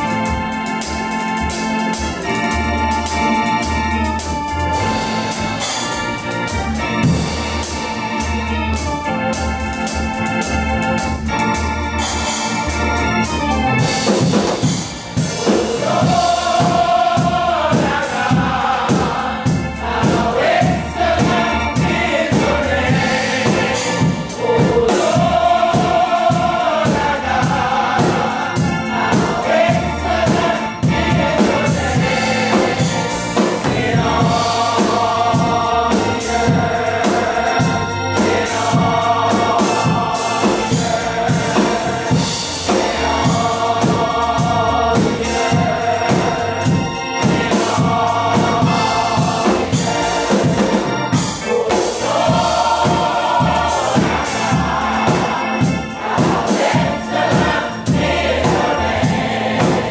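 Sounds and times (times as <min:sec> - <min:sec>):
gospel choir singing: 0:00.0 - 0:59.9
organ playing: 0:00.0 - 0:59.9
steady beat: 0:00.0 - 0:59.9.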